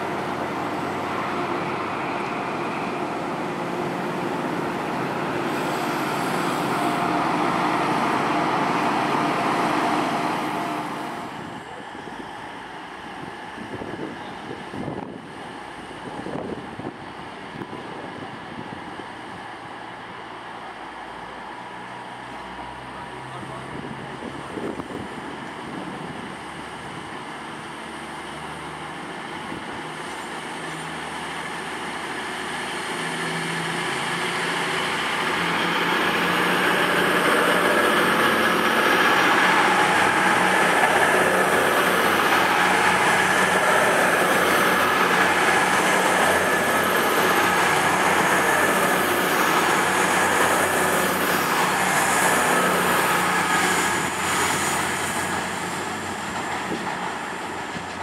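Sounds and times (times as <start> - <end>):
diesel train engine whining: 0.0 - 58.0.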